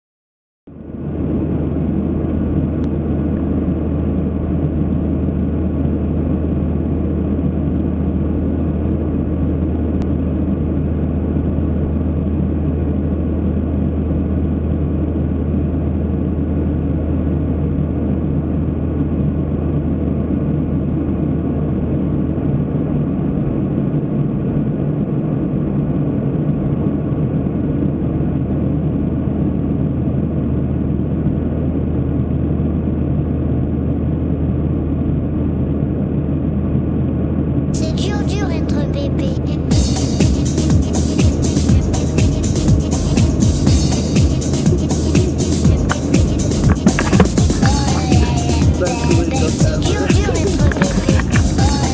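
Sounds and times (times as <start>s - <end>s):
airliner cabin drone: 0.7s - 51.9s.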